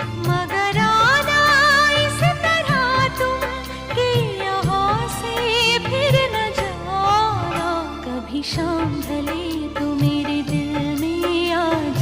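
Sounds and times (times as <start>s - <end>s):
instrumental backing: 0.0s - 12.0s.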